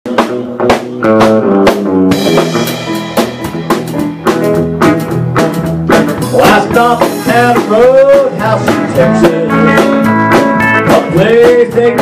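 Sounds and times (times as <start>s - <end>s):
live country band instrumental: 0.1s - 12.0s.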